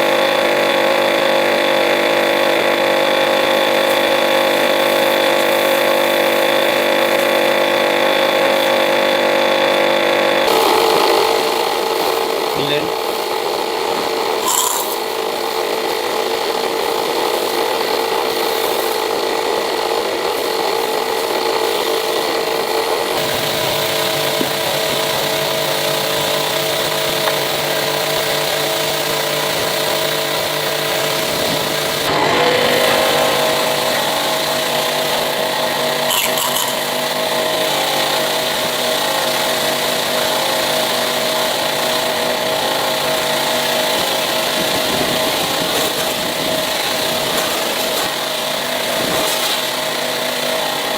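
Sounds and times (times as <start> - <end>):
power tool running: 0.0 - 50.9.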